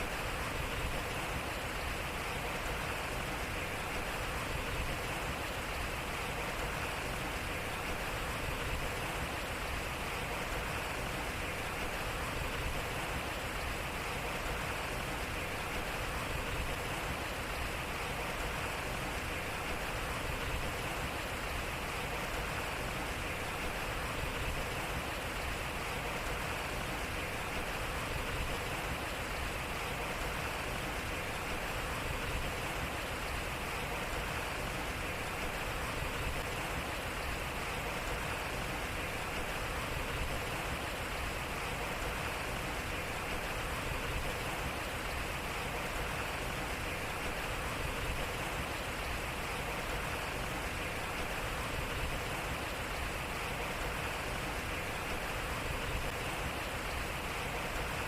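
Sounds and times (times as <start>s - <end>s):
water splashing at water wheel: 0.0s - 58.0s.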